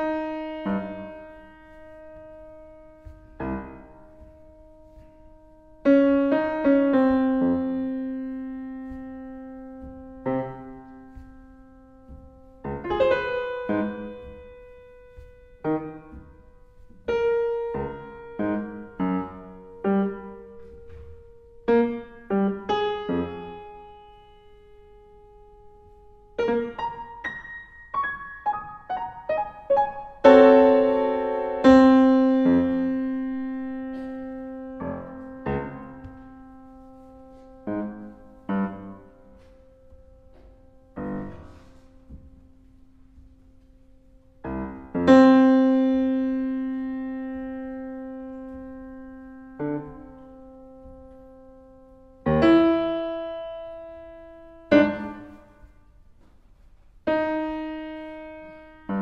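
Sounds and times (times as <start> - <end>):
solo piano chords and runs: 0.0 - 59.0.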